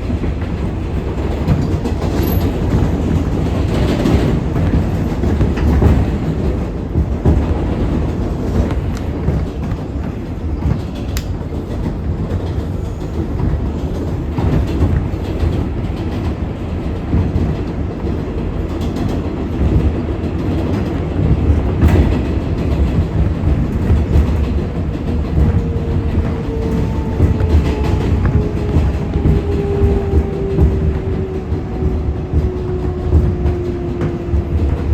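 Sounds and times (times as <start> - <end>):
subway train wheels rumbling: 0.0 - 34.9.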